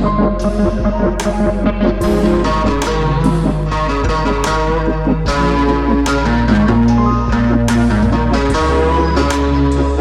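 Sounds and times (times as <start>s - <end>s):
pop music with guitar and beat: 0.0s - 10.0s.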